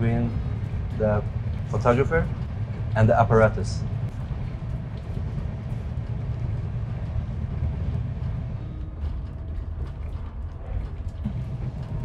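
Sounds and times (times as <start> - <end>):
train coach rumbling: 0.0 - 12.0.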